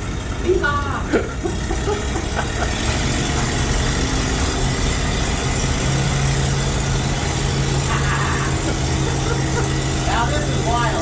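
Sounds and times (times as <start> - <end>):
low hum: 0.0 - 11.0
truck engine running: 0.0 - 11.0.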